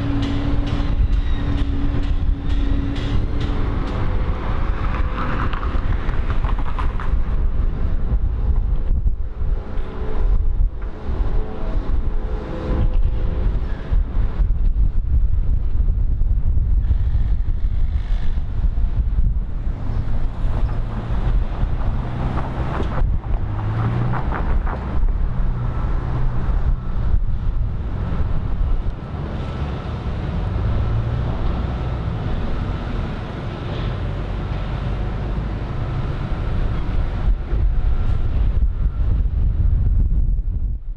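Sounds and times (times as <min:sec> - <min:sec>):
street noise: 0:00.0 - 0:40.9
wind buffeting microphone: 0:00.0 - 0:40.9.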